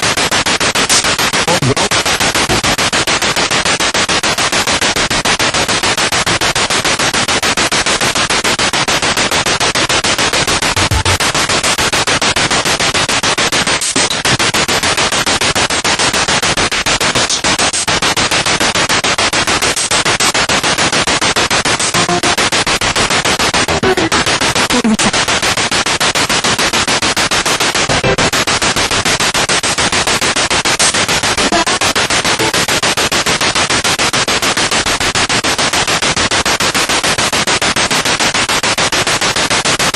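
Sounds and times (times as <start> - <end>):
radio static pulsing: 0.0 - 39.6
snatches of broadcast sound: 0.0 - 39.9.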